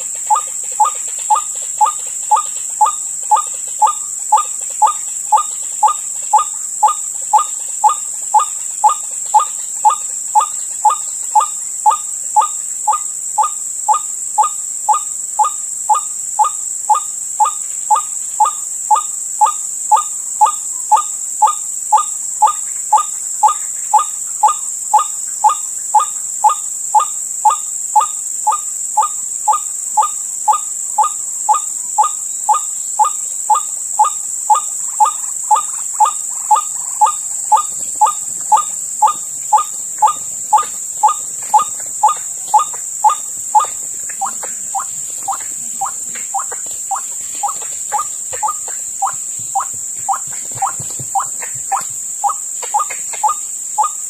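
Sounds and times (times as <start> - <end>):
waterhen calling: 0.0 - 27.6, 28.5 - 54.0
high insect drone: 0.0 - 54.0.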